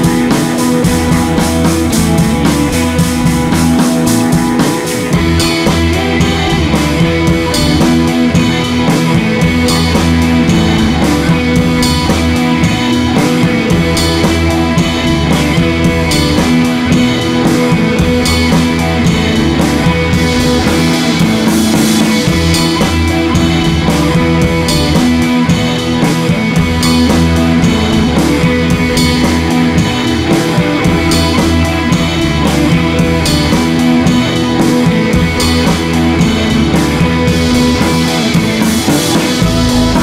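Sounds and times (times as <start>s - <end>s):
rock music: 0.0s - 40.0s.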